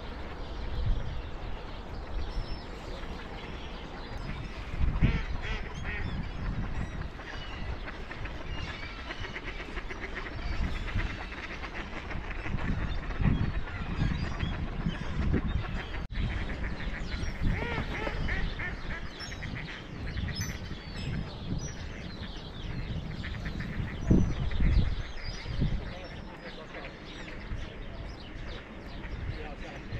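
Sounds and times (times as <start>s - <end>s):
ducks and geese quacking and honking: 3.4s - 27.6s.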